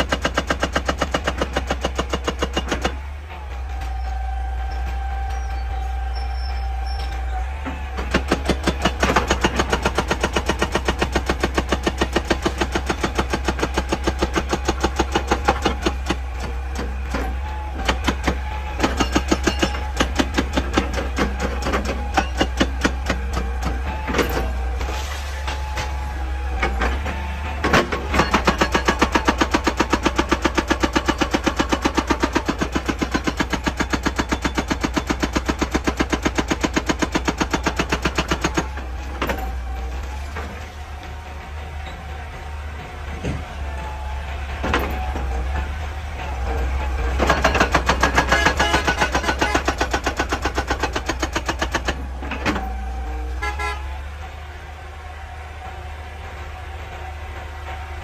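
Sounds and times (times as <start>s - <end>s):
excavator engine drone: 0.0s - 58.0s
hydraulic breaker hammering rock: 0.0s - 58.0s.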